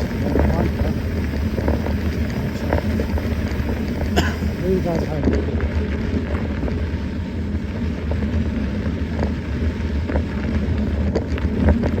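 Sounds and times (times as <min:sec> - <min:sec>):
bike tyres rumbling on trail: 0:00.0 - 0:12.0
wind buffeting microphone: 0:00.0 - 0:12.0.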